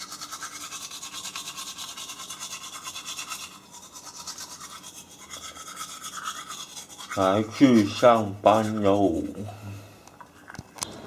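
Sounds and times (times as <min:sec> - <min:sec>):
fast scrubbing noise: 0:00.0 - 0:09.4.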